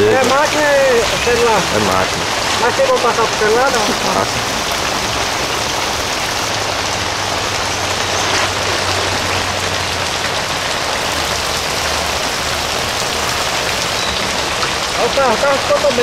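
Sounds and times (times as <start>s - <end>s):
rain pouring down: 0.0s - 16.0s.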